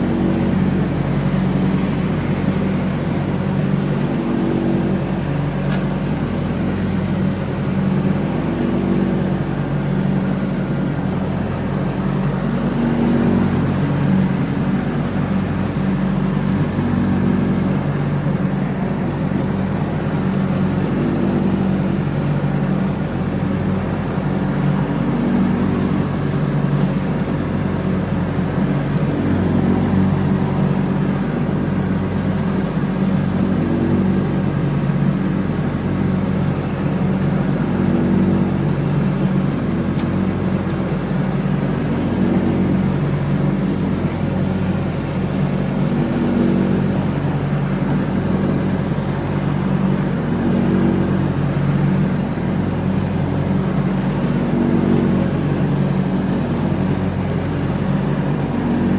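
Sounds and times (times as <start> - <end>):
riding lawn mower engine running: 0.0 - 58.9.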